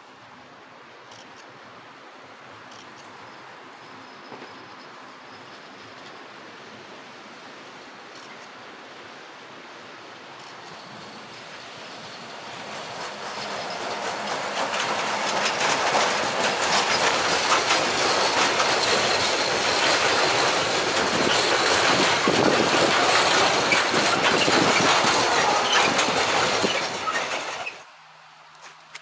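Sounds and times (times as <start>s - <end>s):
train wheels rumbling over rails: 1.1s - 27.9s.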